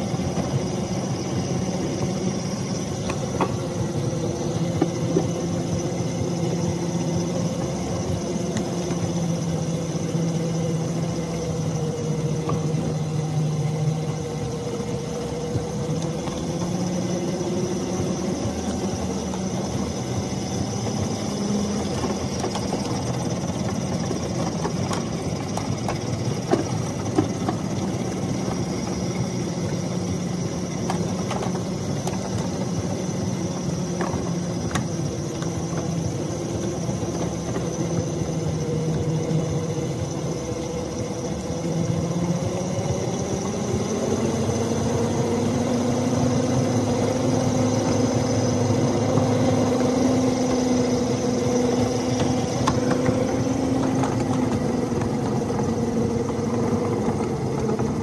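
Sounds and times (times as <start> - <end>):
small rail vehicle engine: 0.0 - 58.0.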